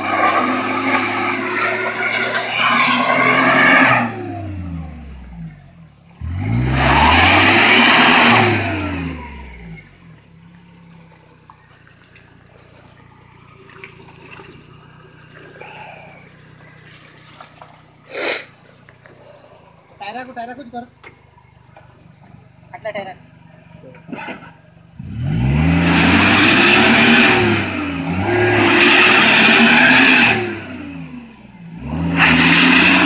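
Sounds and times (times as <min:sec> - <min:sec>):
van engine revving: 0:00.0 - 0:33.0.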